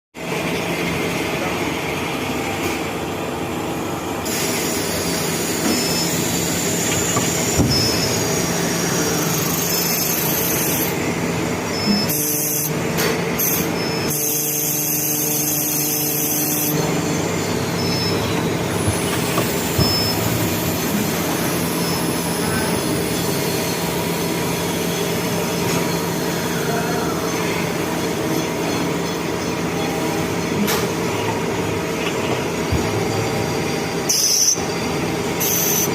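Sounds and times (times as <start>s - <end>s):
cnc machine running: 0.2s - 35.9s.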